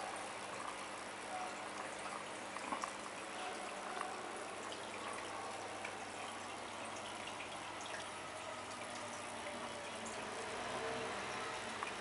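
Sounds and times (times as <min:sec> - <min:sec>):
water drips: 0:00.0 - 0:12.0
water trickling and splashing: 0:00.0 - 0:12.0.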